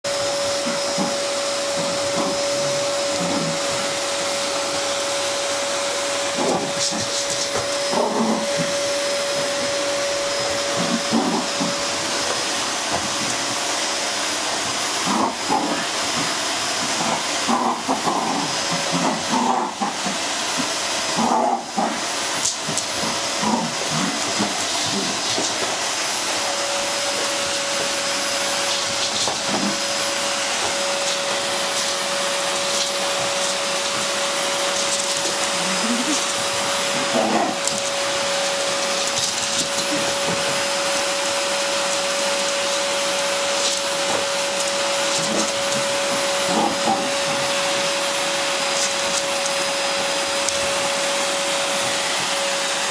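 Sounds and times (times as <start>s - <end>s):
vacuum cleaner whining: 0.0s - 52.9s.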